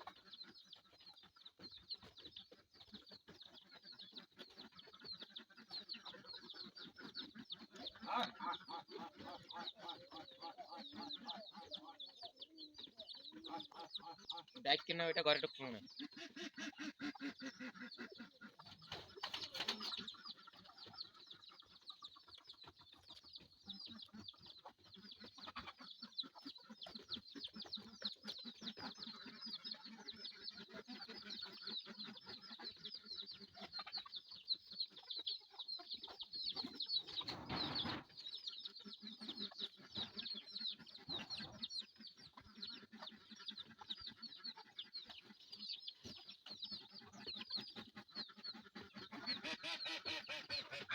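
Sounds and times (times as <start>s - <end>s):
chickens clucking: 0.0s - 50.9s
high-pitched chirping chorus: 0.0s - 50.9s.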